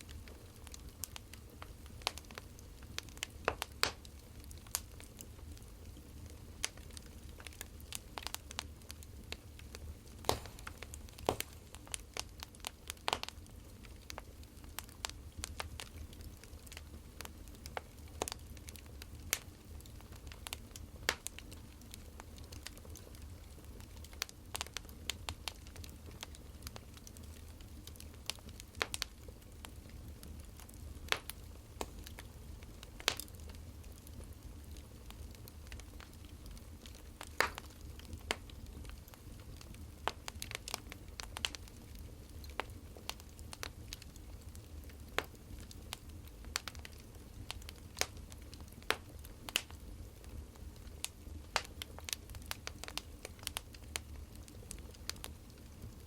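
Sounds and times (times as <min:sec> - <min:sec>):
firewood crackling: 0:00.0 - 0:56.0.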